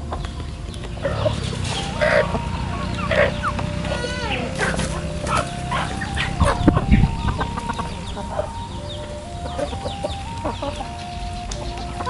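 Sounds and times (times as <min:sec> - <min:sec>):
chickens clucking: 0:00.0 - 0:12.0
low thumps: 0:00.4 - 0:12.0.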